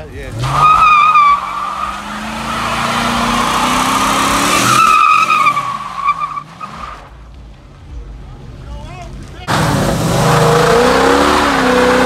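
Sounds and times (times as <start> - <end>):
car engine revving: 0.0 - 7.2, 9.5 - 12.0
car tyres squealing: 0.0 - 7.3, 9.4 - 12.0.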